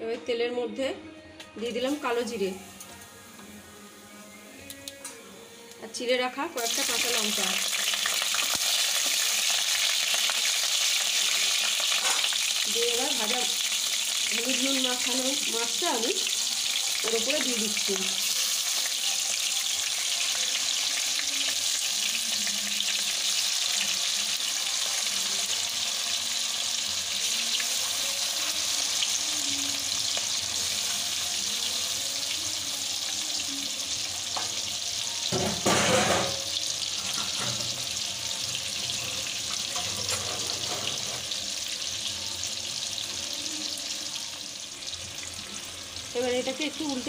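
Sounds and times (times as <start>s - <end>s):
fish sizzling in hot oil: 1.9s - 4.8s, 6.6s - 47.0s.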